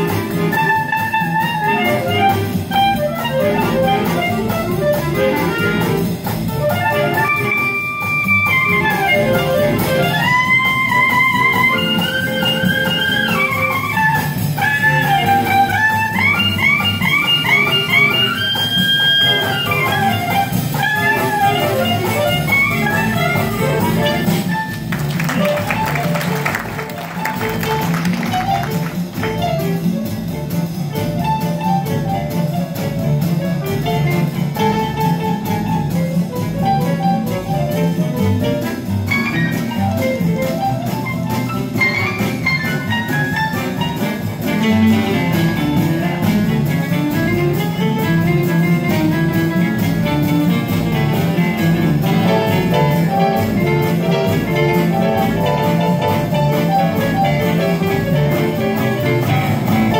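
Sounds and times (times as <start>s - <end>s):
swing jazz rhythm section: 0.0s - 59.9s.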